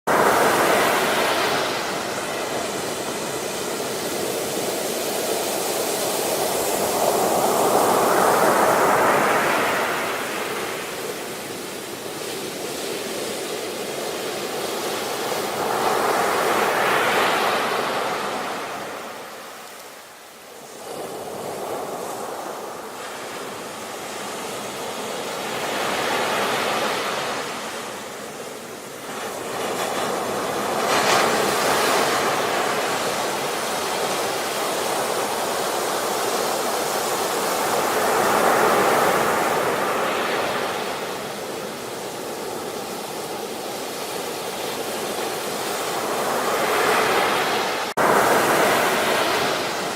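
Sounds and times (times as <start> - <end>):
waves breaking: 0.1 - 49.9.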